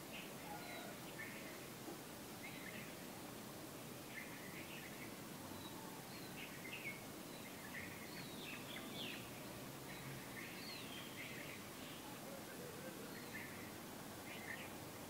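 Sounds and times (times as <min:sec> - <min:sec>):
low steady background noise: 0:00.0 - 0:15.0
small birds chirping: 0:00.0 - 0:15.0.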